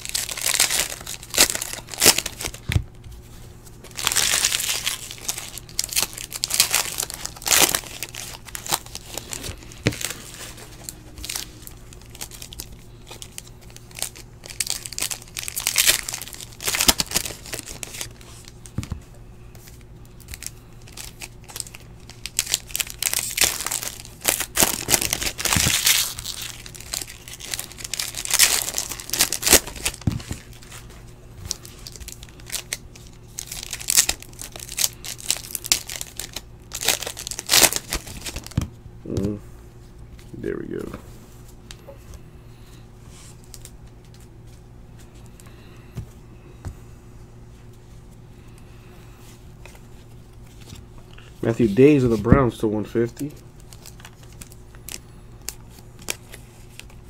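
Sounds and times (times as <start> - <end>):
foil wrappers crinkling and tearing: 0.0 - 2.8, 3.8 - 39.4, 43.2 - 44.6, 49.3 - 57.0.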